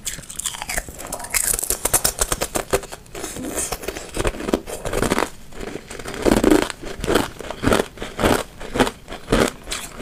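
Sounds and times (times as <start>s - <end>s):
ice crunching while chewed: 0.0s - 10.0s.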